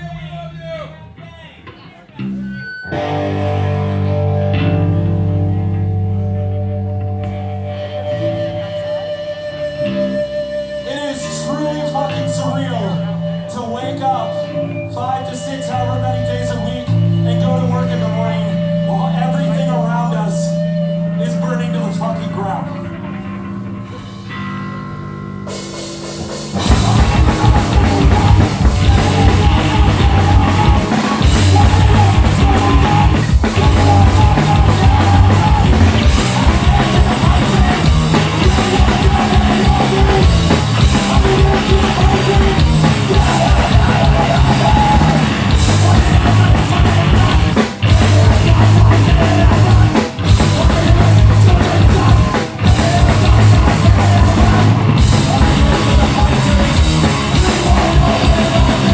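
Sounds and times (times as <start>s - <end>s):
electric guitar ringing: 0.0s - 58.9s
punk band playing live: 0.0s - 58.9s.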